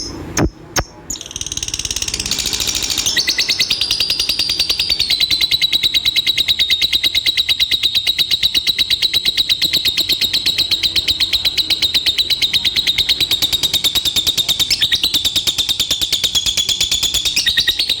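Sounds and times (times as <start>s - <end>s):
bird chattering trill: 0.0s - 18.0s.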